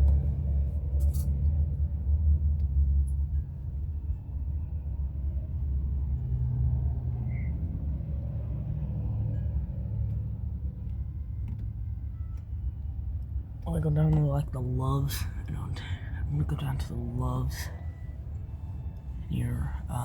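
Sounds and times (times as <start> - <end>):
passing vehicle engines droning: 0.0 - 20.0
road traffic rumble: 0.0 - 20.0.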